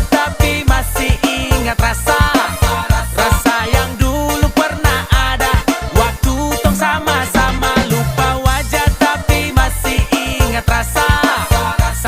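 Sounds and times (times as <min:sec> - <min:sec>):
upbeat dance music with singing: 0:00.0 - 0:12.0.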